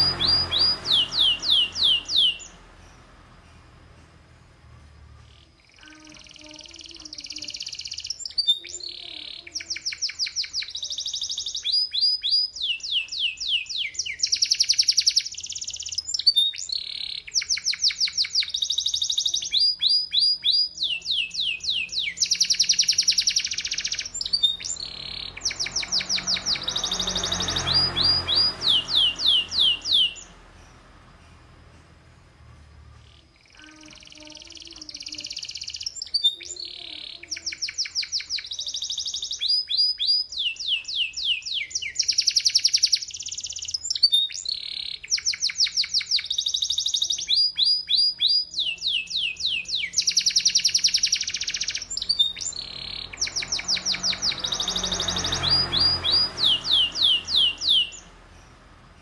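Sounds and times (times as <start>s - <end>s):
canary singing rolling trills: 0.0s - 59.0s.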